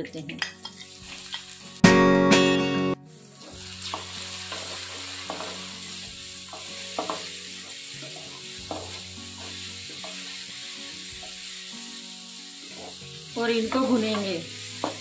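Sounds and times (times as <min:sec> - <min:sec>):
vegetables sizzling in oil: 0:00.6 - 0:02.0, 0:03.1 - 0:15.0.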